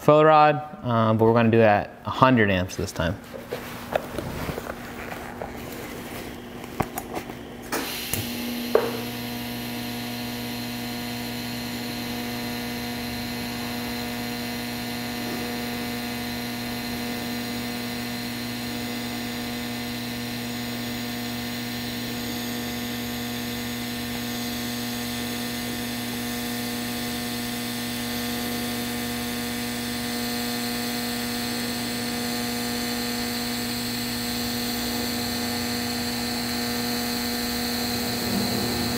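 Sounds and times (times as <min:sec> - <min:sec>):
welding arc buzzing: 0:05.4 - 0:38.9.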